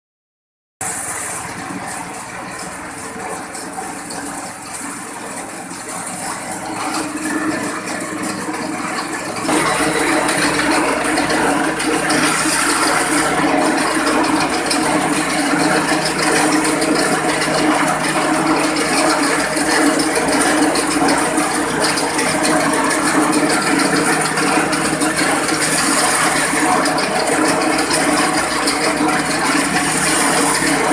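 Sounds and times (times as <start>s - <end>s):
grass chopper machine rattling: 0.8s - 30.9s.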